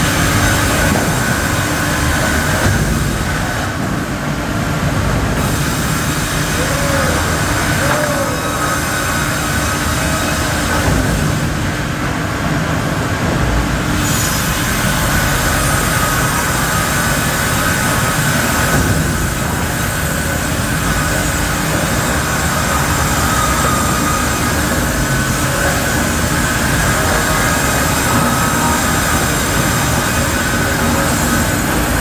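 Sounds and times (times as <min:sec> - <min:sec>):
stone saw machine running: 0:00.0 - 0:04.0, 0:05.3 - 0:11.8, 0:13.8 - 0:32.0.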